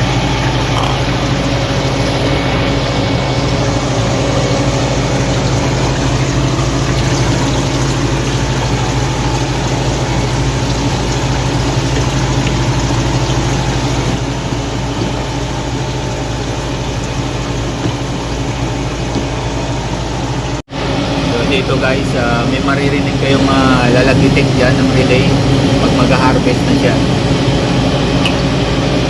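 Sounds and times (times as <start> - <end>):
ice machine humming: 0.0 - 29.0
water running: 0.0 - 29.0.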